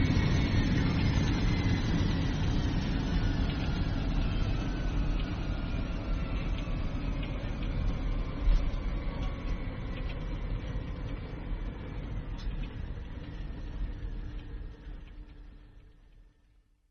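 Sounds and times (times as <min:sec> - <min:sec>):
airliner engines rumbling: 0:00.0 - 0:16.4
faint whine: 0:00.0 - 0:16.9.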